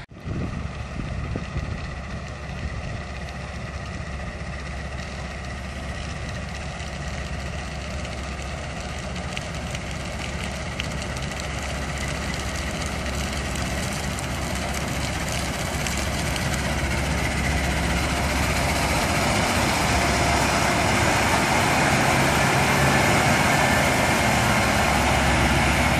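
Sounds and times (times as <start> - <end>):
harvesting machine engine running: 0.0 - 25.9.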